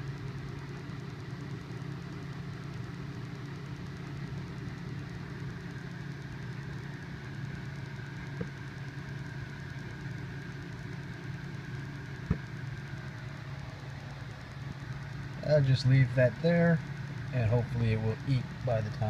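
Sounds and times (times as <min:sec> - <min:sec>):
low hum of room noise: 0:00.0 - 0:19.0.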